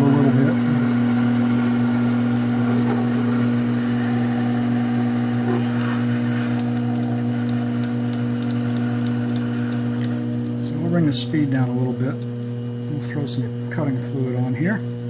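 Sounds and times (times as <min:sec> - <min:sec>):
lathe motor hum and whine: 0:00.0 - 0:15.0.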